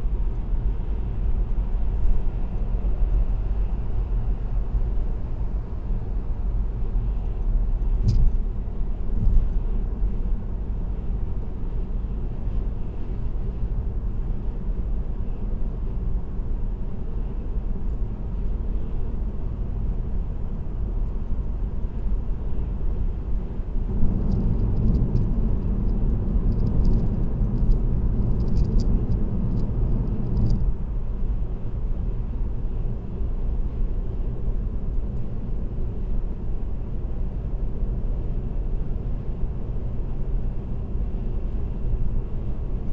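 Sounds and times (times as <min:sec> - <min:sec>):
car road and tyre rumble: 0:00.0 - 0:42.9.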